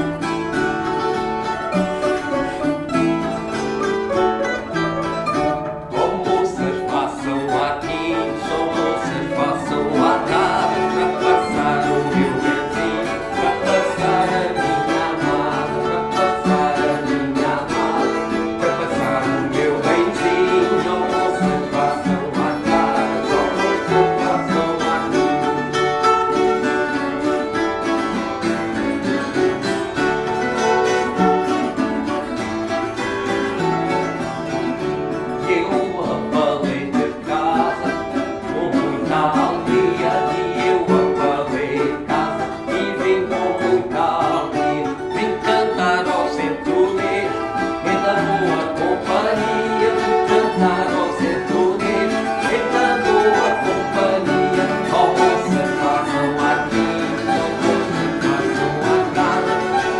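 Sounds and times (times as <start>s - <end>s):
plucked string ensemble: 0.0s - 59.9s
man singing: 5.4s - 31.8s, 34.6s - 59.9s.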